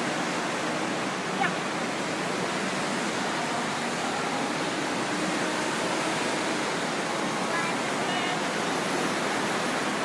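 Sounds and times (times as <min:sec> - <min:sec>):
rushing water in wave pool: 0:00.0 - 0:10.0.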